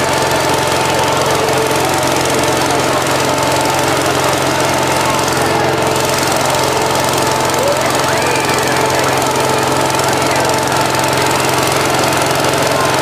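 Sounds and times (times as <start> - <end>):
foam generator mechanical drone: 0.0 - 13.0.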